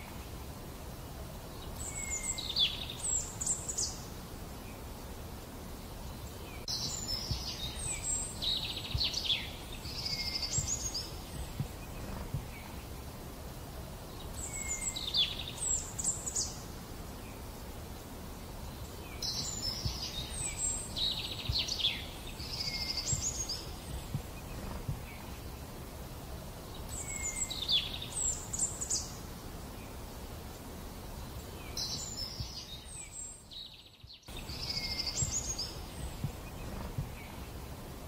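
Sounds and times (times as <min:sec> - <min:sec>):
low background noise: 0:00.0 - 0:38.0
songbird singing: 0:00.0 - 0:38.0.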